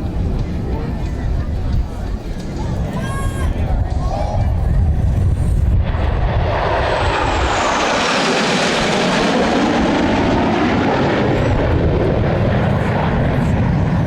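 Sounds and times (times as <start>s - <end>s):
aircraft engine rushing: 0.0s - 14.0s
high engine whine: 0.0s - 14.0s.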